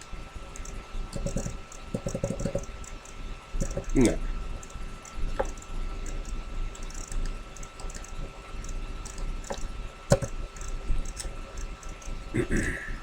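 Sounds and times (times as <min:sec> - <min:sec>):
faint steady hum: 0:00.0 - 0:13.0
keyboard and mouse clicks: 0:00.5 - 0:12.2.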